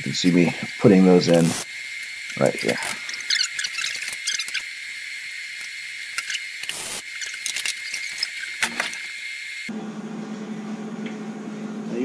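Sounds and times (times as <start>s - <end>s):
welding arc crackling and hissing: 0.0s - 9.7s
steady high buzz: 0.0s - 12.0s.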